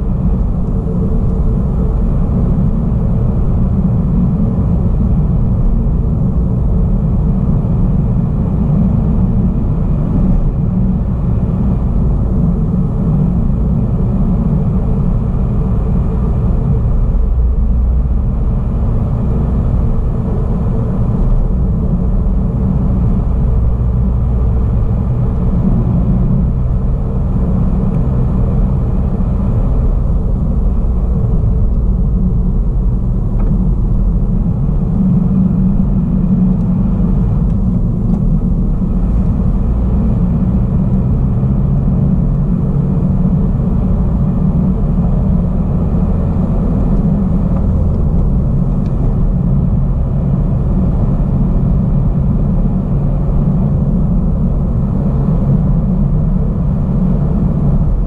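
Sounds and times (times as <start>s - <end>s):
car driving interior rumble: 0.0s - 58.0s.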